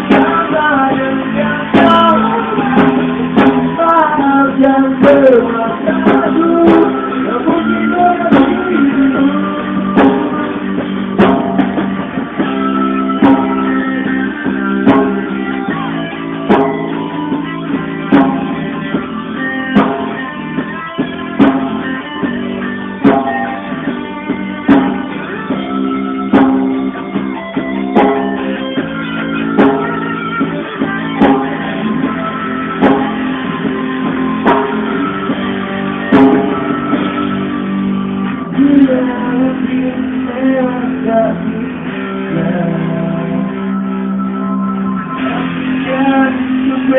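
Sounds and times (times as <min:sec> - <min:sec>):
live band instrumental with guitar: 0:00.0 - 0:46.9.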